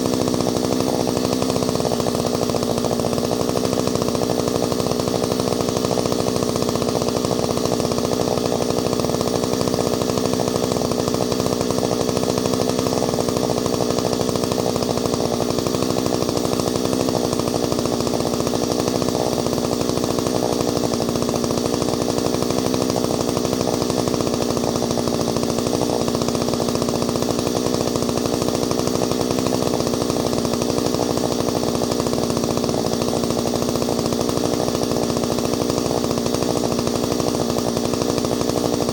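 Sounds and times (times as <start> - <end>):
two-stroke chainsaw running: 0.0 - 38.9.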